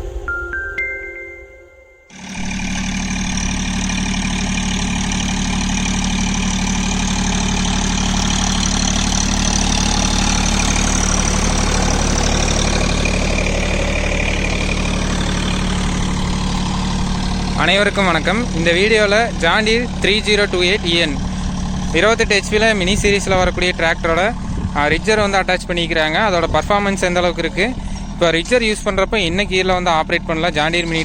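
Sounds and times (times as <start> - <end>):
tractor diesel engine running: 2.1 - 31.0.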